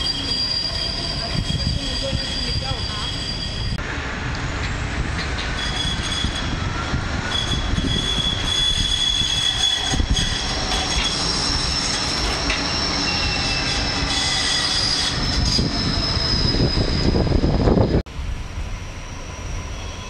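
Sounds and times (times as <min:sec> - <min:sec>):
tram passing with rumble: 0:00.0 - 0:20.0.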